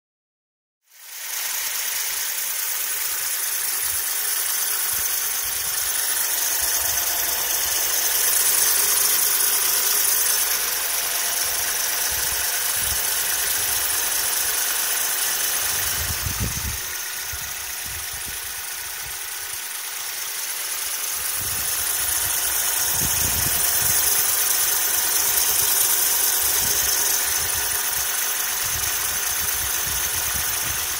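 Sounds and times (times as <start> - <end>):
car engine running: 0.9 - 30.9
drive belt pulley whistle: 1.0 - 19.2, 20.9 - 30.9.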